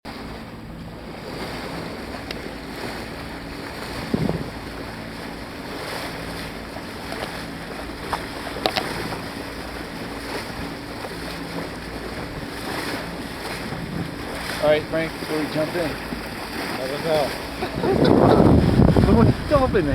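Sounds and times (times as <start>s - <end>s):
water rushing past hull: 0.1s - 19.9s
wind buffeting microphone: 0.2s - 19.9s.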